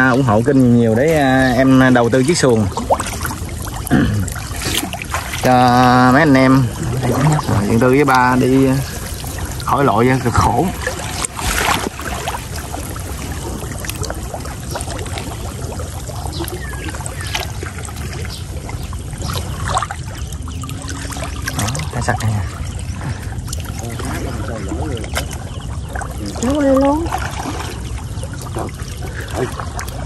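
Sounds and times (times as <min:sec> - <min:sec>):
person wading through water: 0:00.0 - 0:30.0.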